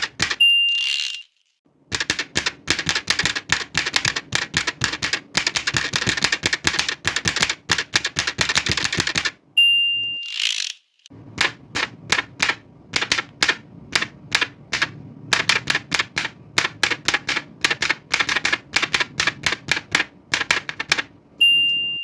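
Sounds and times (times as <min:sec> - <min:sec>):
typewriter key strikes: 0:00.0 - 0:00.4, 0:01.9 - 0:09.4, 0:11.3 - 0:21.2
typewriter carriage return: 0:00.0 - 0:01.2, 0:01.9 - 0:09.4, 0:10.3 - 0:21.2.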